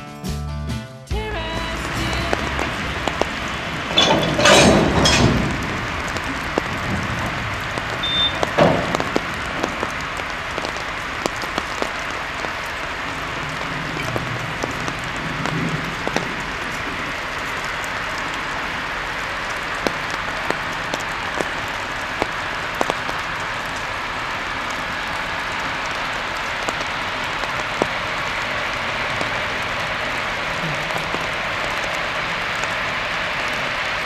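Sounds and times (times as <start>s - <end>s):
rain falling: 1.1s - 34.0s.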